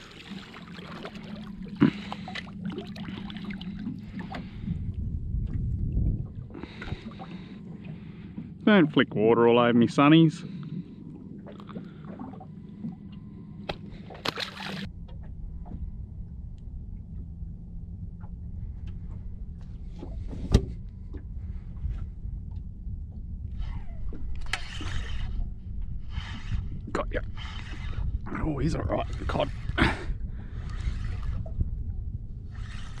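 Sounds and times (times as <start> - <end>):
water lapping against boat hull: 0.0 - 16.0, 16.6 - 33.0.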